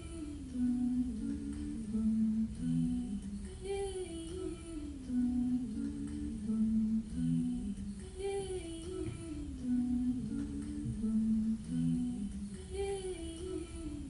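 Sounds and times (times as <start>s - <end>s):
person humming: 0.0s - 4.3s, 5.0s - 13.9s.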